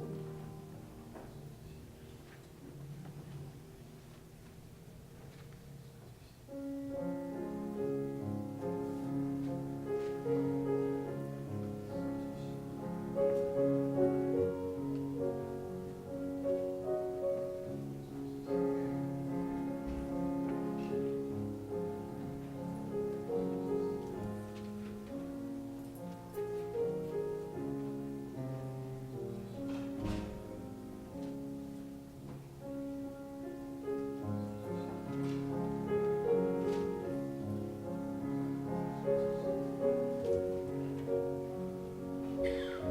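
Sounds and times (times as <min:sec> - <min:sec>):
piano playing slow chords: 0:00.0 - 0:42.9.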